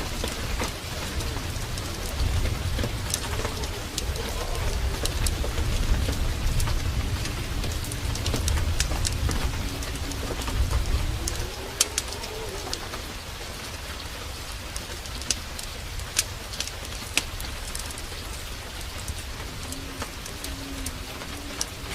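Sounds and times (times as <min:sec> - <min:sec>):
steady downpour rain: 0:00.0 - 0:21.9
wood fire popping: 0:00.0 - 0:21.9.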